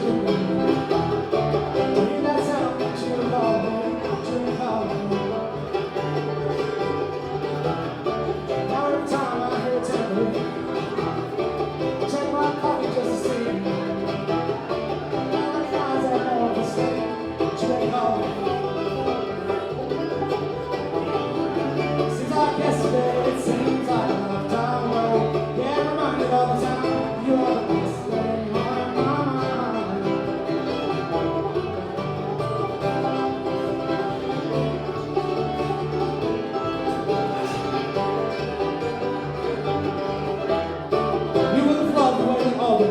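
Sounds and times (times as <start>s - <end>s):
bass line: 0.0s - 42.9s
bluegrass band playing: 0.0s - 42.9s.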